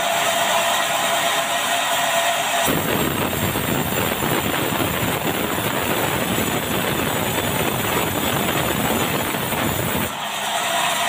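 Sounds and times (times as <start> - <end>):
mill machinery running: 0.0 - 11.0.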